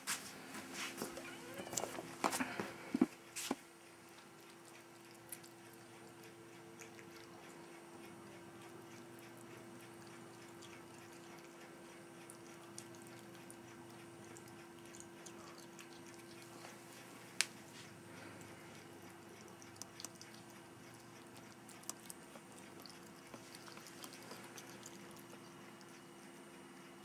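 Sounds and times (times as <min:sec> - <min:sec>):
steady hum: 0:00.0 - 0:27.0
cat crunching dry food: 0:04.1 - 0:17.6, 0:18.2 - 0:26.4.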